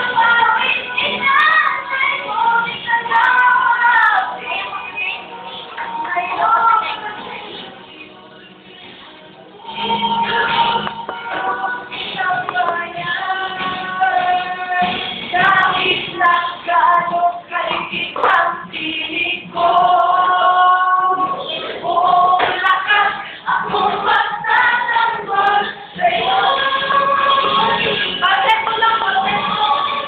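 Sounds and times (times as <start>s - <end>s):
girl singing: 0.0s - 7.7s, 9.6s - 30.0s.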